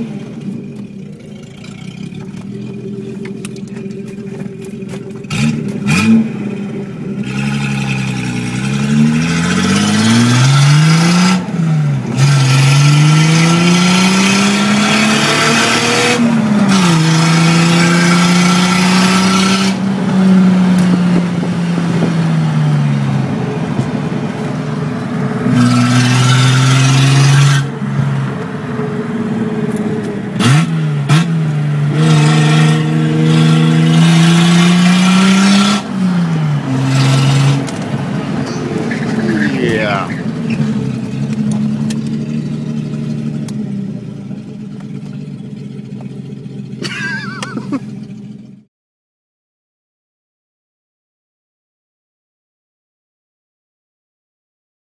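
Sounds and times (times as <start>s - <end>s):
car engine revving through gears: 0.0s - 48.7s.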